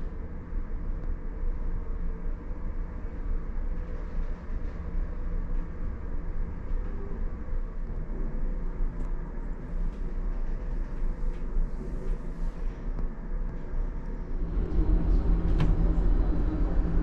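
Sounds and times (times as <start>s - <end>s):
ship engine rumble and hum: 0.0s - 17.0s.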